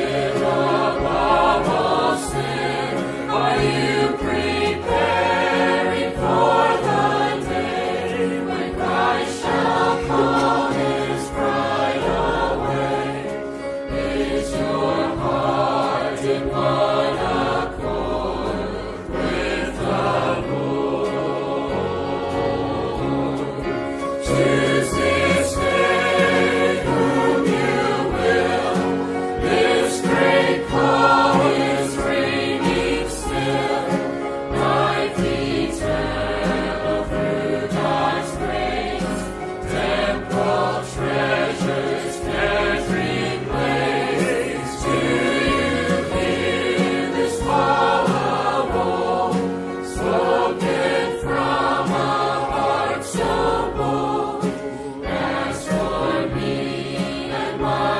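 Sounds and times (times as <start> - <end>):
choir singing a gospel hymn: 0.0 - 57.9.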